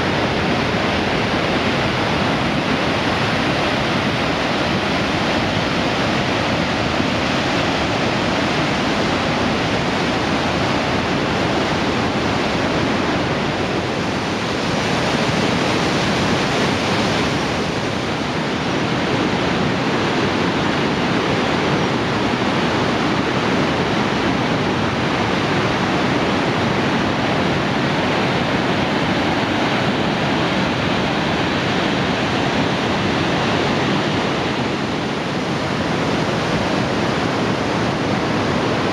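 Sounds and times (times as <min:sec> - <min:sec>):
whitewater rushing over boulders: 0:00.0 - 0:38.9.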